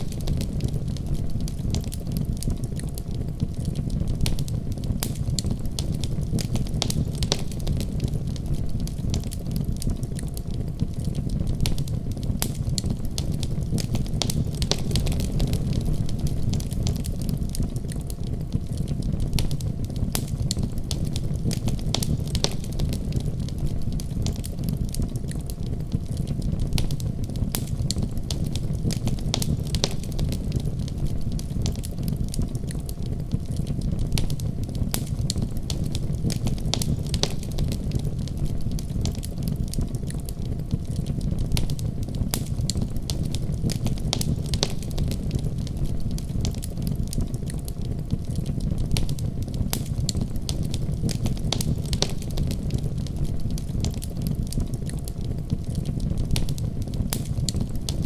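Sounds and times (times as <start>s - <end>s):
fire pops and snaps: 0.0s - 58.0s
low rumble of burning: 0.0s - 58.0s.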